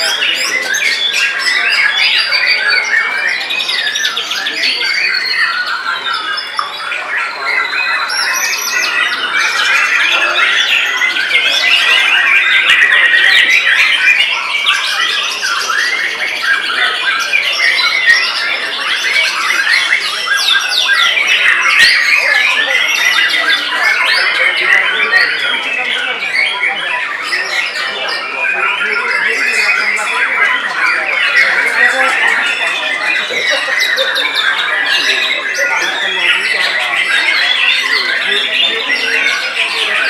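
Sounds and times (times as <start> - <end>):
birds singing: 0.0 - 40.0.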